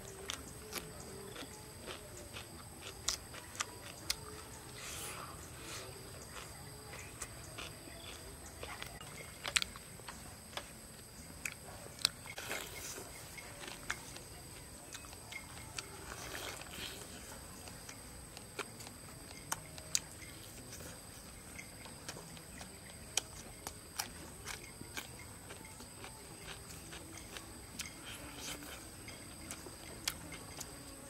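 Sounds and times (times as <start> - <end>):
crunching while chewing: 0.0 - 31.0.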